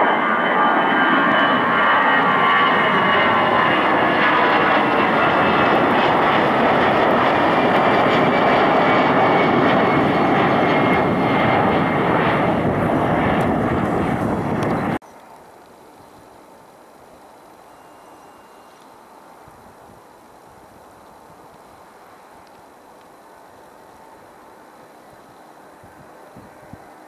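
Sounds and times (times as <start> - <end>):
jet engines roaring with whine: 0.0 - 27.0.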